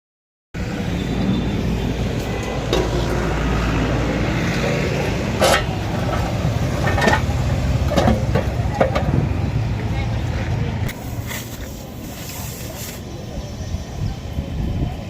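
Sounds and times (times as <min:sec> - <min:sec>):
vehicle engine rumbling: 0:00.6 - 0:15.0.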